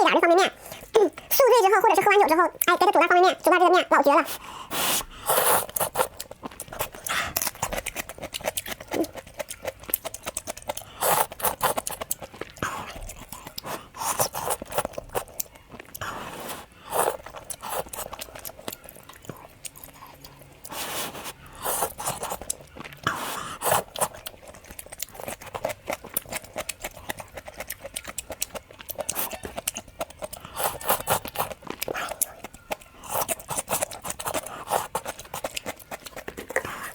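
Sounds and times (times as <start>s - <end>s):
person chewing and biting: 4.4s - 36.9s.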